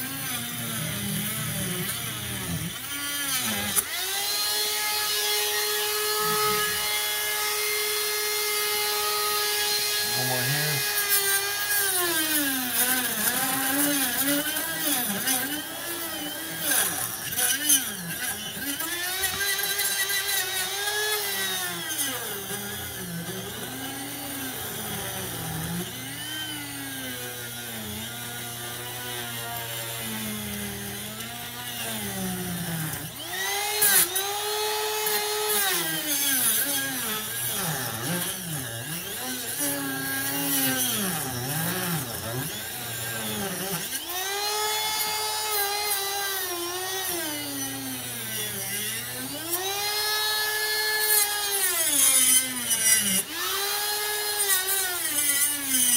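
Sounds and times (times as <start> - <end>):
rotary tool grinding metal: 0.0 - 55.9.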